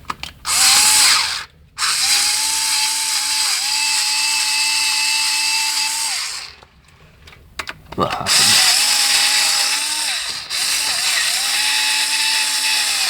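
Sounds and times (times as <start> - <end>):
power screwdriver whine: 0.5 - 6.6, 8.5 - 13.0.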